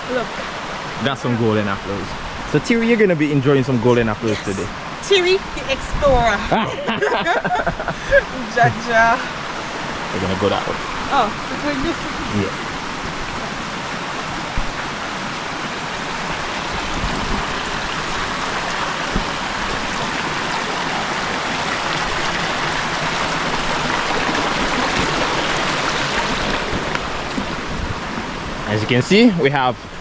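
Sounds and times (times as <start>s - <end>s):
stream rushing: 0.0s - 30.0s.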